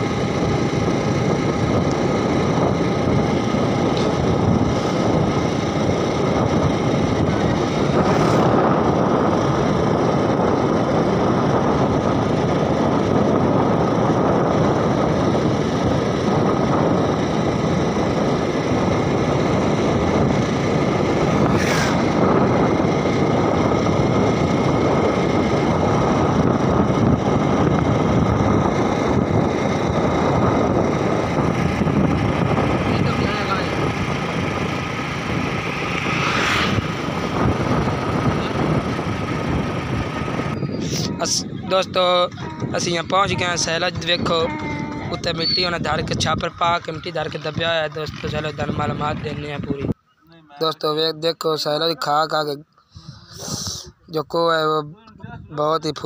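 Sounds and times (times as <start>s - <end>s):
vehicle engine running: 0.0s - 54.8s
road and wind noise: 0.0s - 56.0s.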